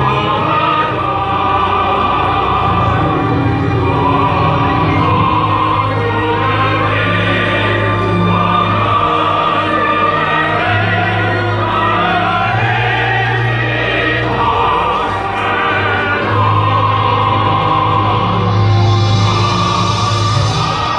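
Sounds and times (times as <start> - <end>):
orchestral music with choir: 0.0 - 20.9.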